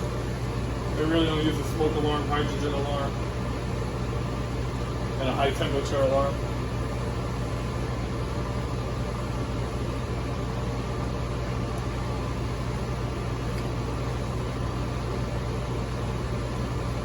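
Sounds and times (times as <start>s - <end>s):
air conditioning unit humming: 0.0s - 17.0s.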